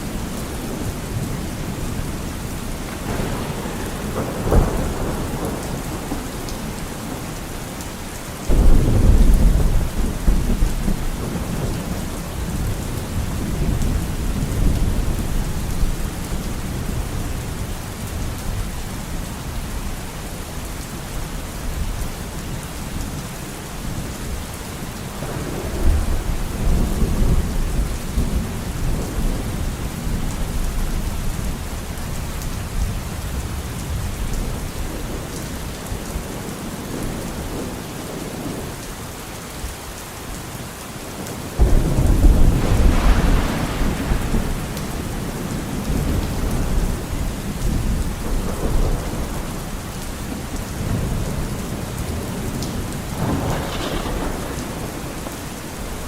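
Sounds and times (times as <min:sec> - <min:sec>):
heavy rain hissing: 0:00.0 - 0:18.3, 0:19.1 - 0:56.0
thunder rumbling: 0:00.0 - 0:18.3, 0:25.1 - 0:38.7, 0:41.2 - 0:56.0.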